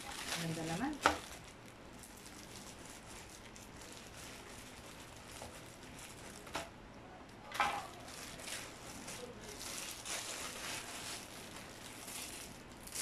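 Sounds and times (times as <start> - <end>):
plastic bag rustling: 0.0 - 6.7, 7.4 - 13.0.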